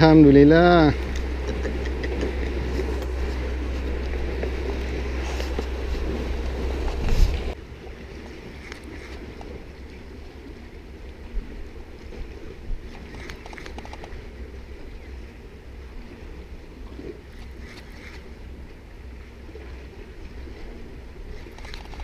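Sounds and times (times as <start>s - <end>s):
sea: 0.0s - 22.0s
wind rumble on microphone: 0.0s - 22.0s.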